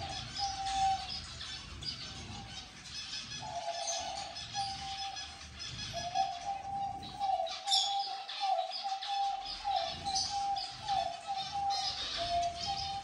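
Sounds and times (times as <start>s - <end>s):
pigeons cooing: 0.0s - 13.0s
small birds chirping: 0.0s - 13.0s.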